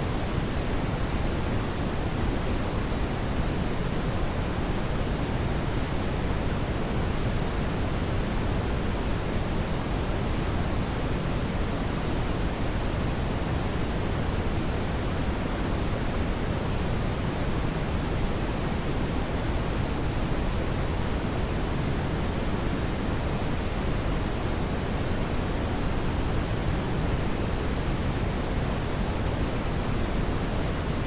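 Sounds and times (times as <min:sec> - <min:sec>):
brown noise hiss: 0:00.0 - 0:31.0.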